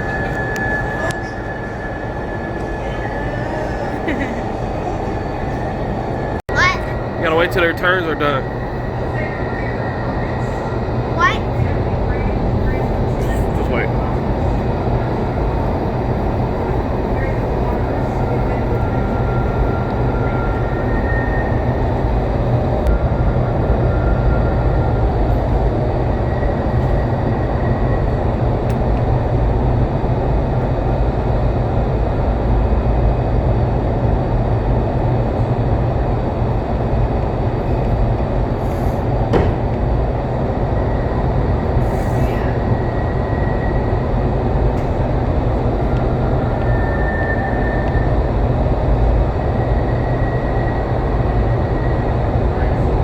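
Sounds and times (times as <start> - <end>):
wind tunnel roar of rushing air: 0.0 - 53.0.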